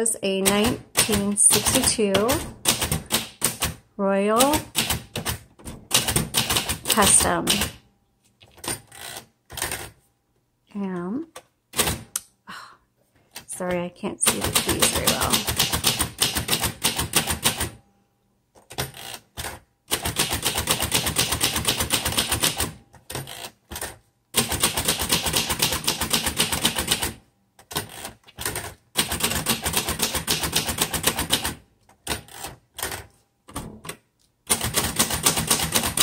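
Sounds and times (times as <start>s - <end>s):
manual typewriter typing: 0.3s - 7.8s, 13.4s - 17.8s, 18.6s - 36.0s.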